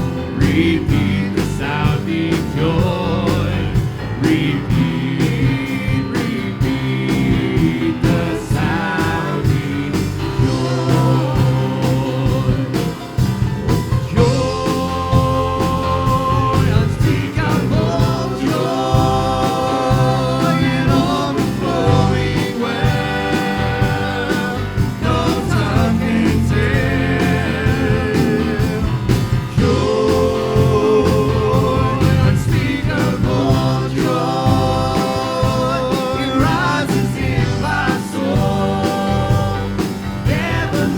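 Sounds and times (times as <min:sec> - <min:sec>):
instrumental accompaniment with beat: 0:00.0 - 0:40.9
voices singing worship song: 0:00.0 - 0:40.9.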